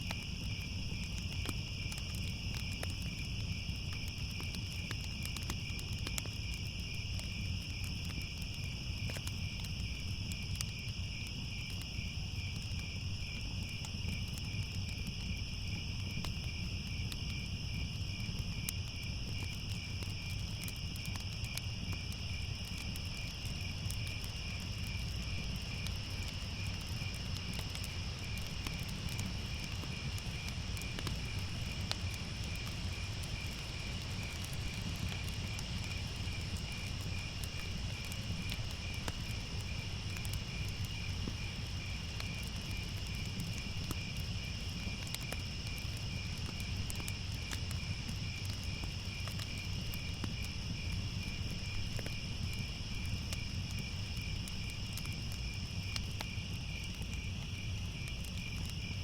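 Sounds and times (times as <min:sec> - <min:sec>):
crickets chirping: 0:00.0 - 0:59.0
faint crackles: 0:00.0 - 0:59.0.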